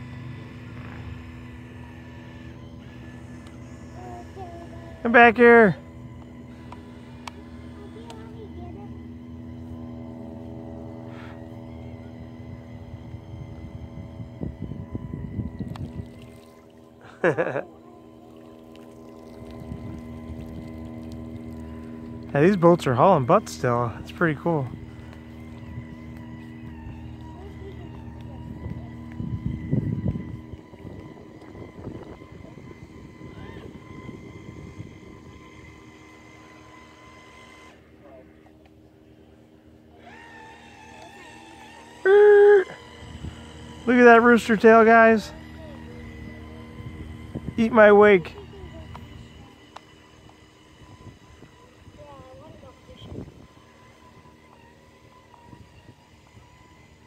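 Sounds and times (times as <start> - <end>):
low uneven rumble: 0.0 - 56.5
toy boat motor whine: 0.0 - 57.0.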